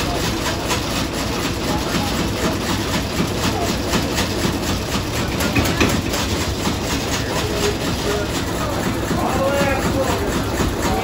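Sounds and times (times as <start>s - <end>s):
stationary oil engine running: 0.0s - 11.0s.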